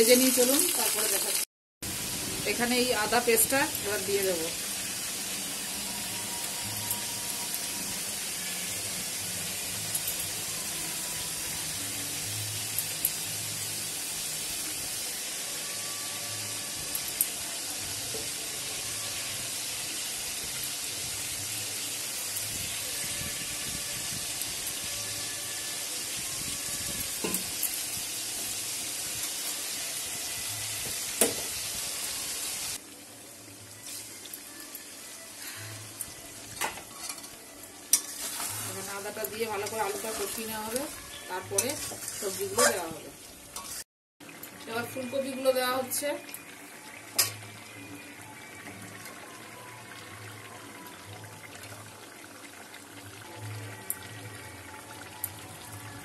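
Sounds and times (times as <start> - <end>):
oil sizzling in a wok: 0.0 - 56.0.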